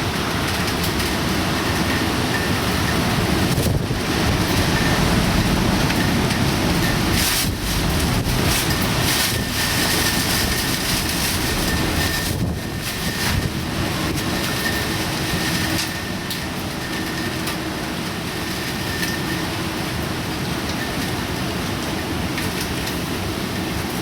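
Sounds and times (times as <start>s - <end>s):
storm wind and rain: 0.0s - 24.0s.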